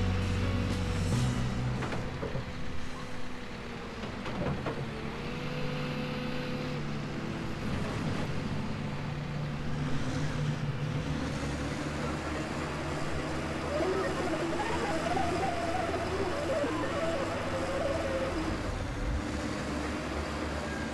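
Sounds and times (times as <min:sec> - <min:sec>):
diesel construction machinery running: 0:00.0 - 0:20.9.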